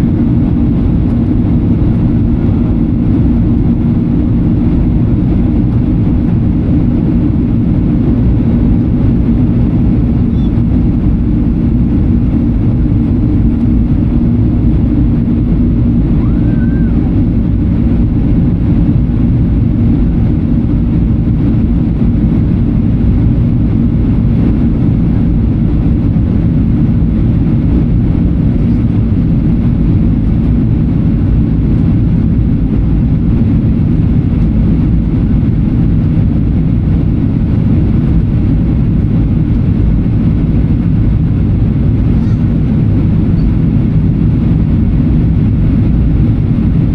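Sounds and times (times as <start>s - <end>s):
airplane cabin roar: 0.0s - 46.9s.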